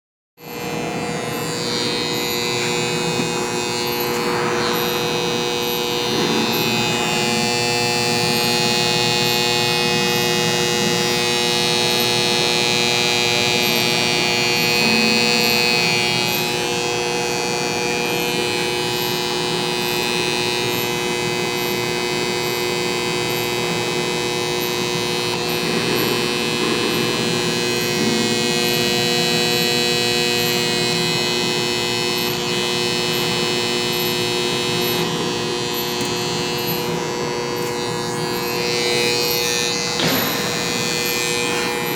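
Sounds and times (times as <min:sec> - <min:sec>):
electrical contactors humming: 0:00.4 - 0:41.9.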